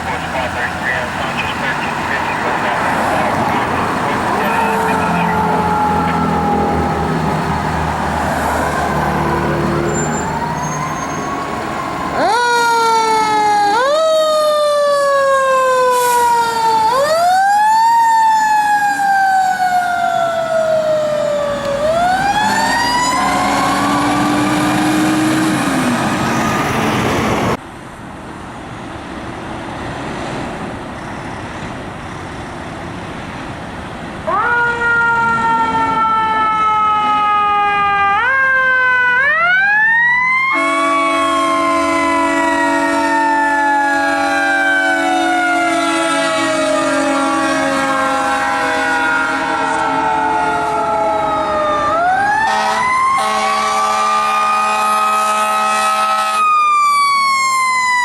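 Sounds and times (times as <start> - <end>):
fire engine siren: 0.0 - 27.6, 34.2 - 58.0
road noise: 0.0 - 58.0.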